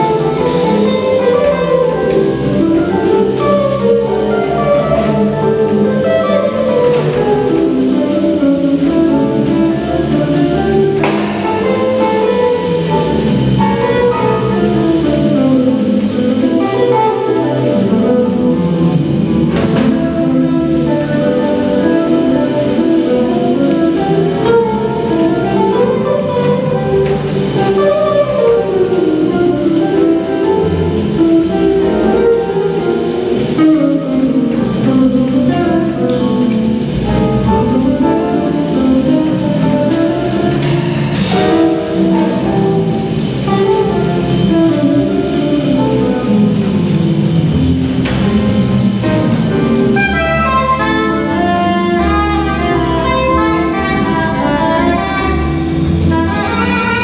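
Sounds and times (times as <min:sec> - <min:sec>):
jazz band playing: 0:00.0 - 0:57.0
quick melodic line: 0:00.0 - 0:57.0
saxophones: 0:00.0 - 0:57.0.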